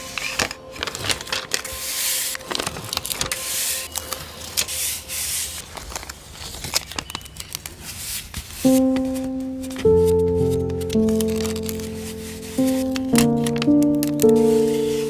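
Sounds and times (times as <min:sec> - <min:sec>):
paper rustling and crinkling: 0:00.0 - 0:09.0, 0:10.0 - 0:15.0.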